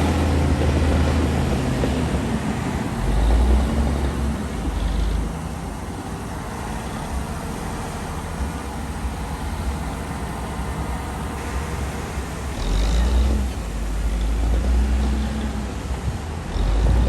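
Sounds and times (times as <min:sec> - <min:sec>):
bulldozer diesel engine under load: 0:00.0 - 0:17.0.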